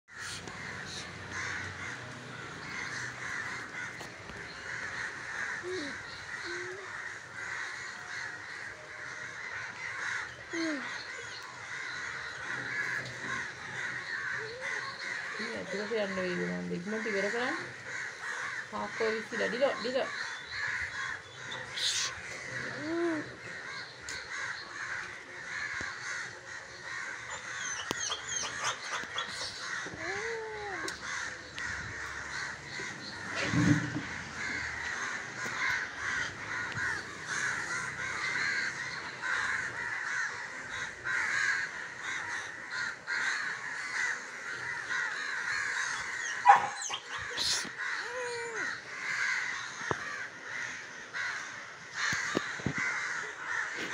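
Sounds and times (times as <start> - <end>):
crows cawing: 0.1 - 53.9.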